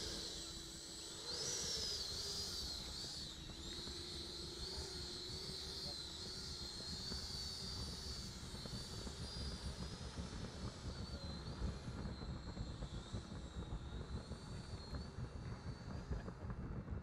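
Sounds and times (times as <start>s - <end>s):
model jet fan whining: 0.0s - 17.0s.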